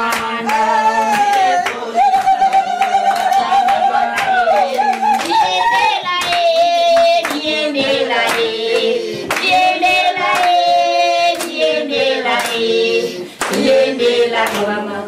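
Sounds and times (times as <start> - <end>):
woman singing: 0.0 - 12.9
hands clapping to the beat: 0.0 - 15.0
people singing along: 0.0 - 15.0.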